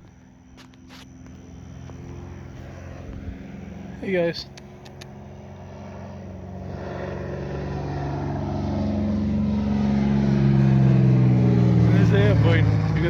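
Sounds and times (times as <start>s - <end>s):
airplane engine droning: 0.0s - 13.0s.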